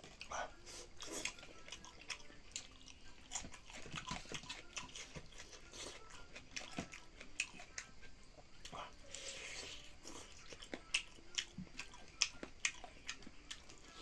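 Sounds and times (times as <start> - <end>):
person chewing and biting: 0.1 - 14.0.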